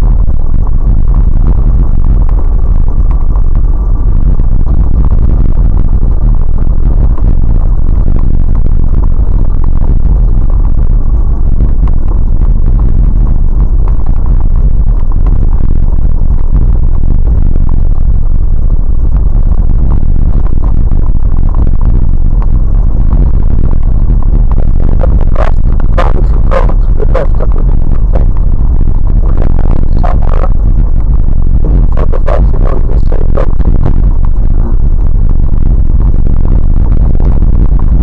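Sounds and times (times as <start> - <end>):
vehicle engine and tyres rumbling: 0.0 - 38.0.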